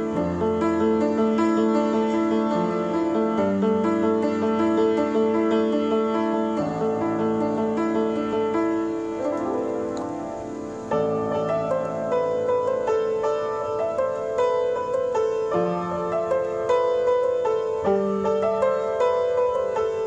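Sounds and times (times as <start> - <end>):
upright piano melody: 0.0 - 20.0.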